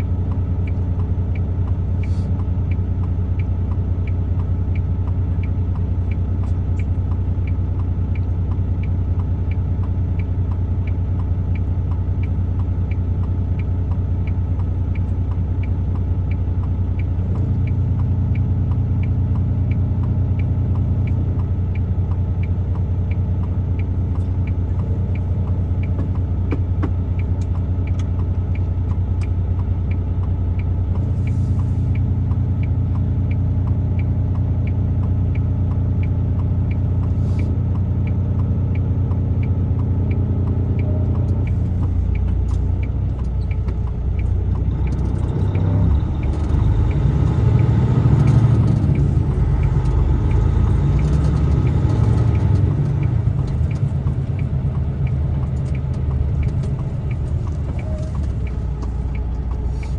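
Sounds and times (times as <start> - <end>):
light regular ticking: 0.0 - 59.9
truck engine running: 0.0 - 59.9.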